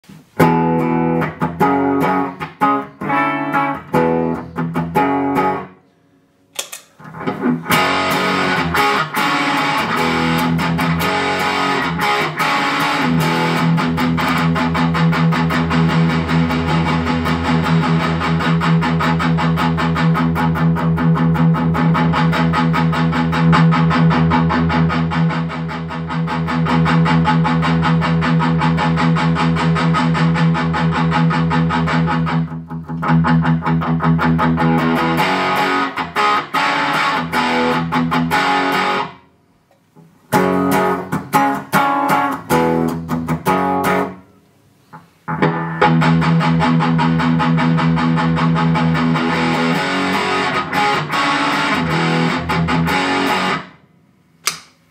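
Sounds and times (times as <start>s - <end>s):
distorted electric guitar chords: 0.3s - 5.8s, 7.0s - 39.2s, 40.3s - 44.4s, 45.0s - 53.8s.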